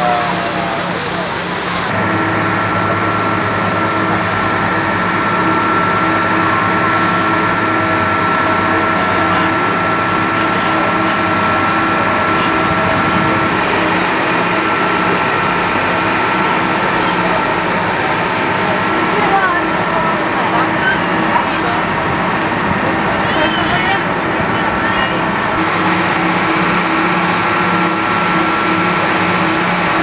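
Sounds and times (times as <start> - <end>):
boat engine droning: 0.0 - 30.0
water rushing: 0.0 - 30.0
wind: 0.0 - 30.0.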